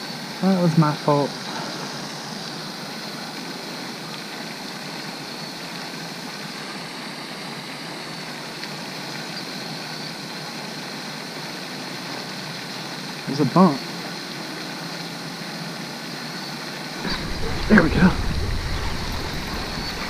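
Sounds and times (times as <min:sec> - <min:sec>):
fountain splashing: 0:01.3 - 0:20.0.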